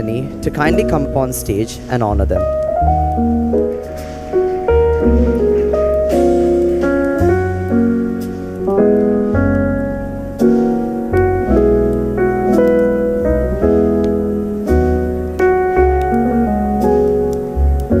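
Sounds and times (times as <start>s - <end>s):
deep piano bass notes: 0.0s - 18.0s
slow piano chords: 0.0s - 18.0s.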